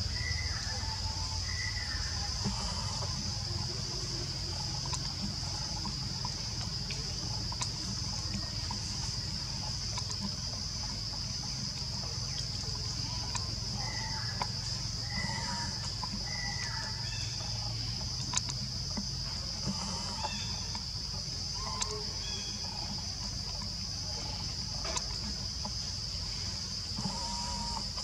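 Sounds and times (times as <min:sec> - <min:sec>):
high-pitched insect drone: 0:00.0 - 0:28.0
soft ticks: 0:02.4 - 0:28.0.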